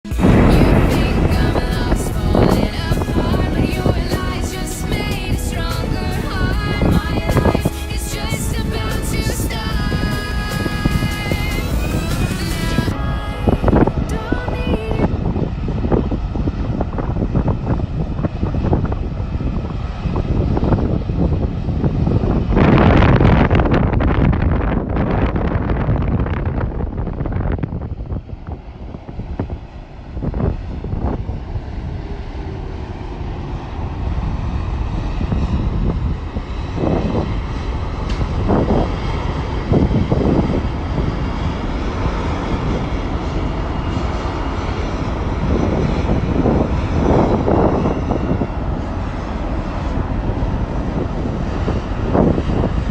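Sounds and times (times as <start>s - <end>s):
jet engine roar: 0.0s - 52.9s
wind gusts on microphone: 0.0s - 52.9s.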